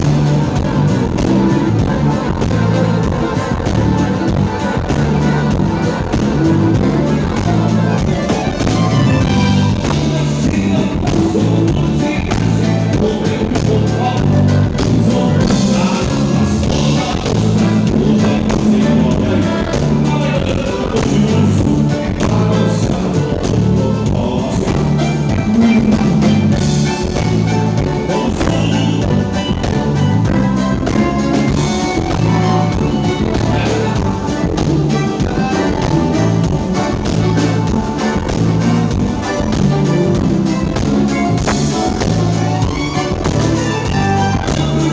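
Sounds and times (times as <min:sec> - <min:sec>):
band playing music: 0:00.0 - 0:44.9
person singing: 0:00.0 - 0:44.9.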